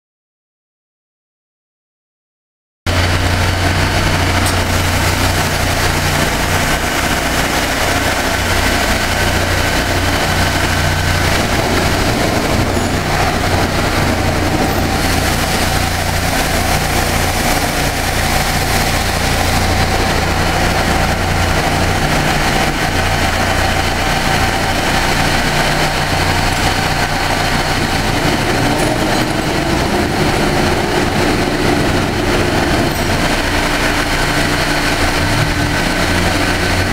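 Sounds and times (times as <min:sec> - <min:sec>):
machinery humming: 0:02.9 - 0:36.9.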